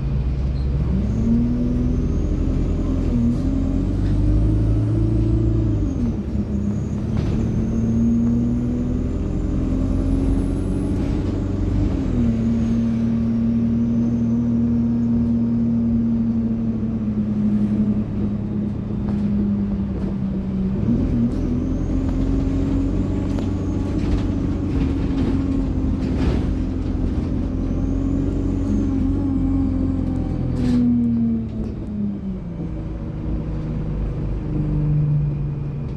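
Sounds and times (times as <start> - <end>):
bus diesel engine running: 0.0 - 35.9.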